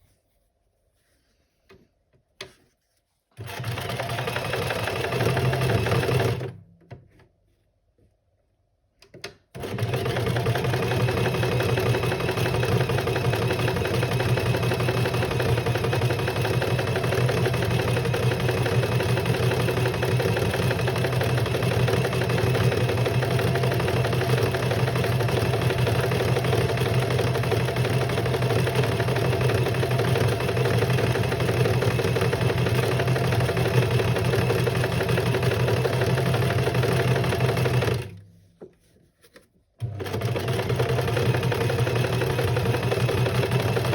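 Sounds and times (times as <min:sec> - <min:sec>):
electric sewing machine running: 0:03.4 - 0:06.6, 0:09.6 - 0:38.2, 0:39.8 - 0:43.9.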